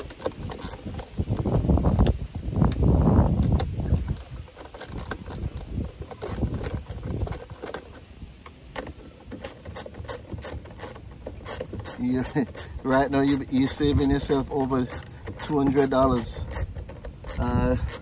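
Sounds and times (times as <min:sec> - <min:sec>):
hand ratchet clicking: 0:00.0 - 0:08.0, 0:08.8 - 0:18.0.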